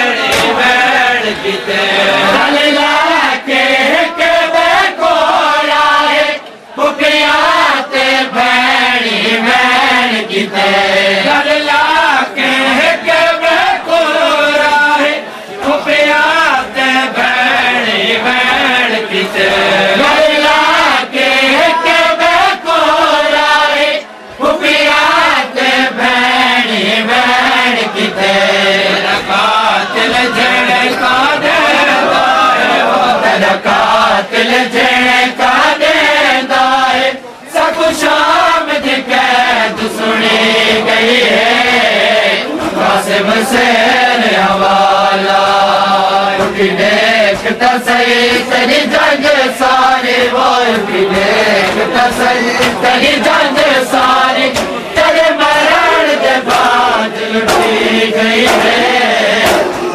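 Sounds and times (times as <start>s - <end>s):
men chanting a lament: 0.0s - 59.9s.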